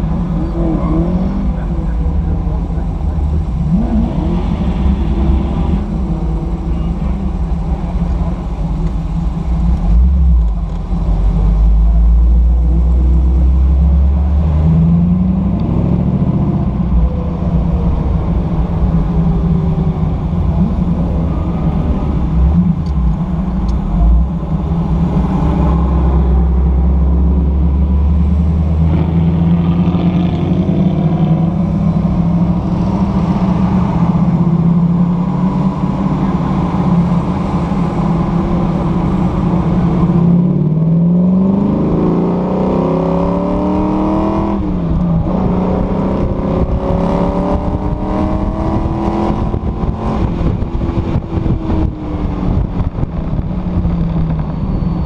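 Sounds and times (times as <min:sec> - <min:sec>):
car engine cruising: 0:00.0 - 0:55.0
deep low rumble: 0:00.0 - 0:55.0.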